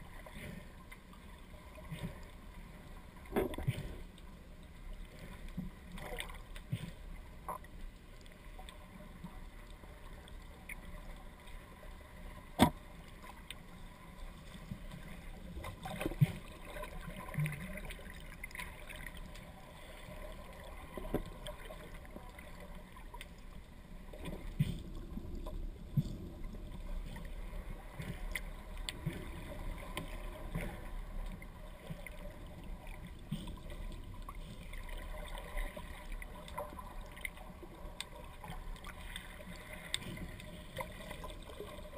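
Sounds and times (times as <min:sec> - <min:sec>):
underwater rumble of moving water: 0:00.0 - 0:41.9.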